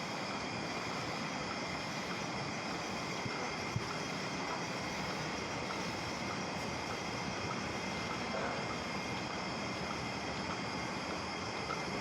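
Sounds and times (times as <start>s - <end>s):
machine noise: 0.0s - 12.0s.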